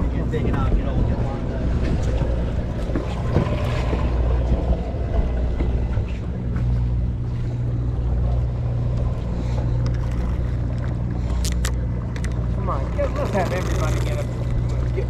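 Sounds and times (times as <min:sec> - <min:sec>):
boat engine humming: 0:00.0 - 0:15.0
water noise: 0:00.0 - 0:15.0
wind: 0:00.0 - 0:15.0.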